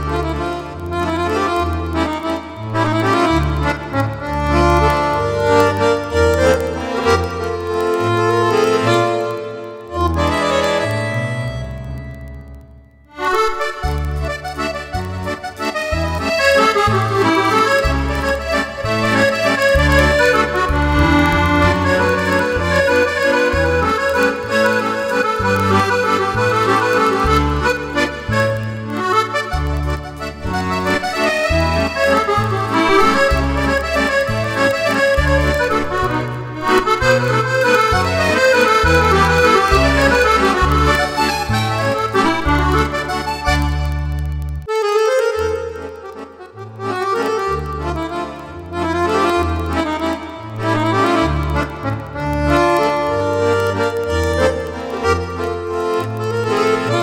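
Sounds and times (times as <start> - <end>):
accordion playing a waltz: 0.0 - 57.0.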